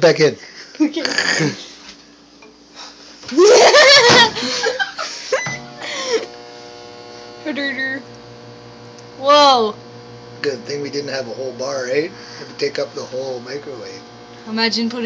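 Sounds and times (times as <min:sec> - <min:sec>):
microwave oven humming: 0:00.1 - 0:15.0.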